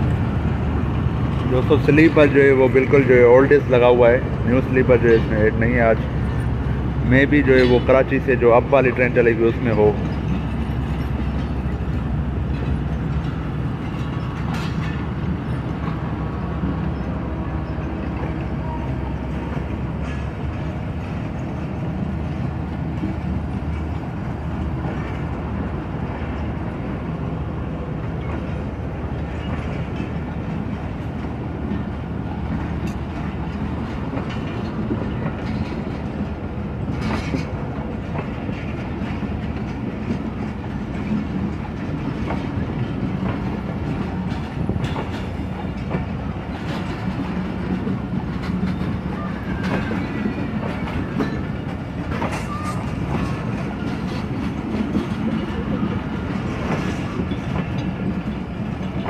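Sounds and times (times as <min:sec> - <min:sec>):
train coaches rumbling past: 0:00.0 - 0:59.0
wheels clicking over rail joints: 0:00.0 - 0:59.0.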